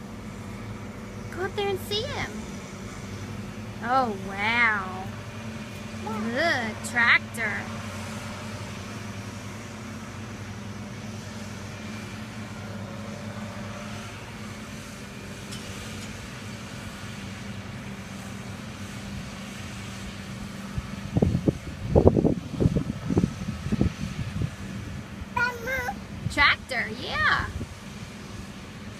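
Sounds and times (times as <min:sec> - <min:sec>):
tractor engine droning: 0:00.0 - 0:28.9.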